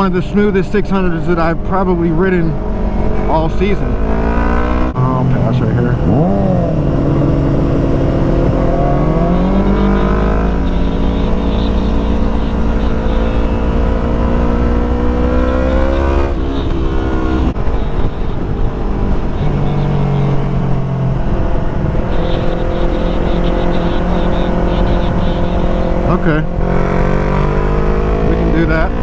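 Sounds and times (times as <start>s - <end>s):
motorcycle engine at highway speed: 0.0s - 29.0s.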